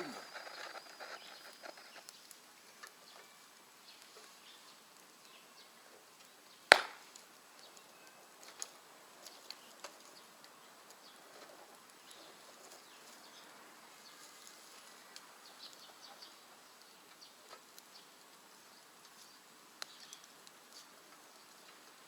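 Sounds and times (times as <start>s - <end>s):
quiet hiss: 0.0s - 22.0s
wood crackling in stove: 0.0s - 22.0s.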